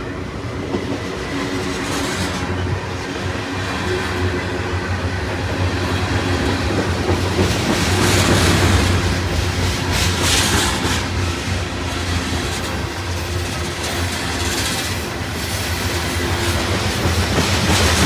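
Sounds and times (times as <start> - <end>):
low train rumble: 0.0 - 18.0
freight train wheels clicking: 0.1 - 18.0.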